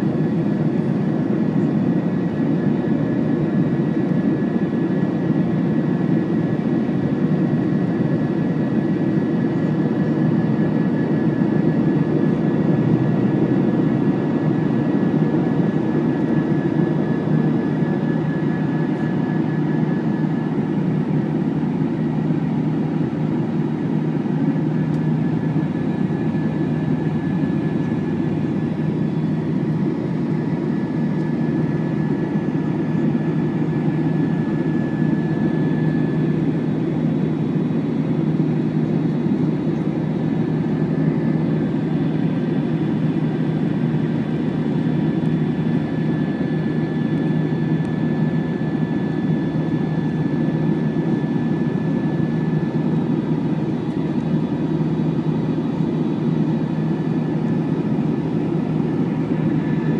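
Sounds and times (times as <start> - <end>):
jet engine cabin noise: 0.0 - 59.9.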